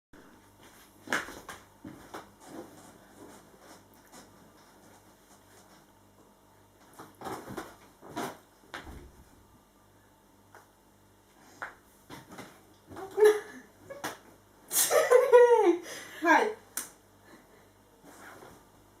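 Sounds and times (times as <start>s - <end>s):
faint steady hum: 0.2s - 19.0s.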